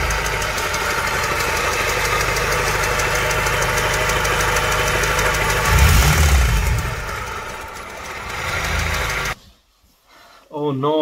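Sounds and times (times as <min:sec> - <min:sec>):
car engine idling with knock: 0:00.0 - 0:09.4.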